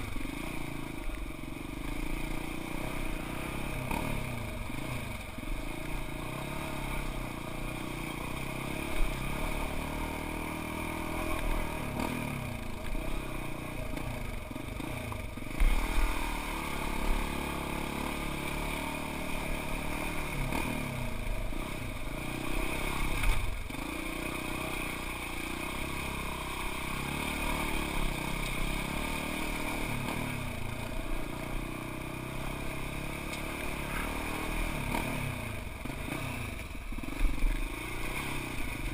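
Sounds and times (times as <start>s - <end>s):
off-road vehicle engine: 0.0s - 38.9s.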